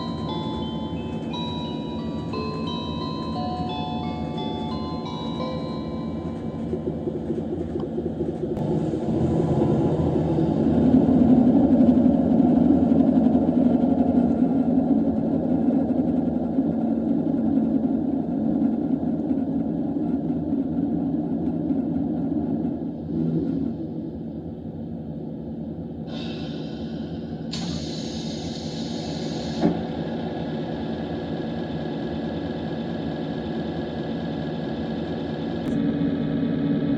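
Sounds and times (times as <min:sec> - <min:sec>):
diesel engine rumble: 0:00.0 - 0:36.9.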